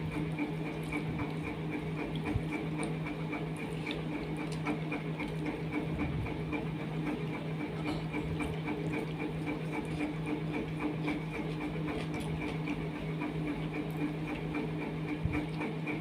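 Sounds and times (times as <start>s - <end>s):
pulsing mechanical hum: 0.0s - 16.0s.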